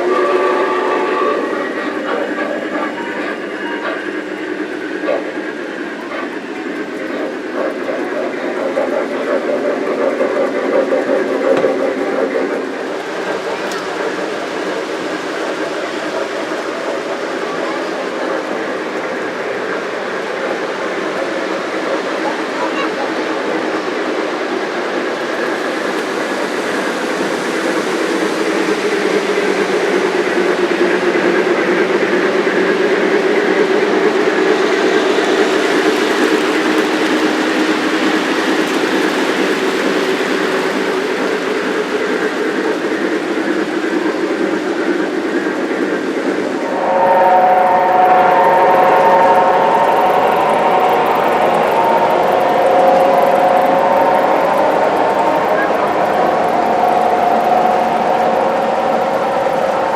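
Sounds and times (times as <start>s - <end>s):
model train rumbling on track: 0.0s - 59.9s.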